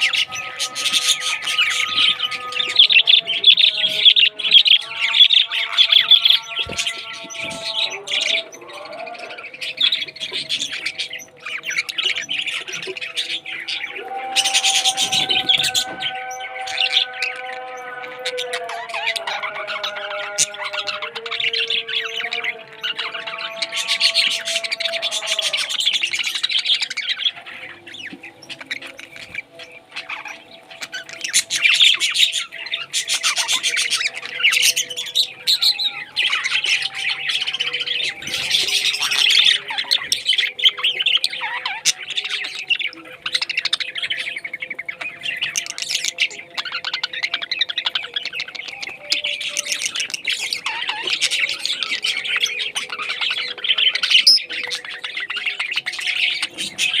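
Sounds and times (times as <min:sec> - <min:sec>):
parrots chirping and squawking: 0:00.0 - 0:57.0.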